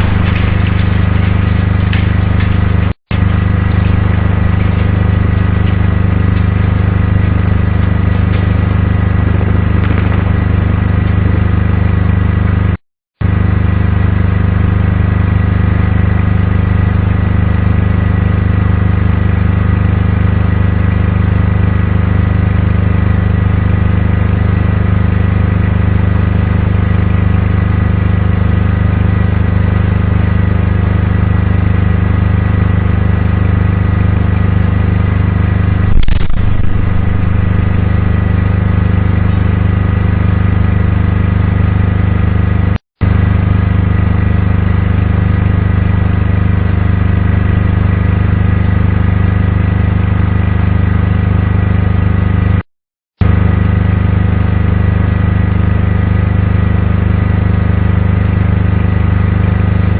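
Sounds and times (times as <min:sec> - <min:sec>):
loud steady mechanical hum: 0:00.0 - 0:52.6, 0:53.2 - 0:59.9.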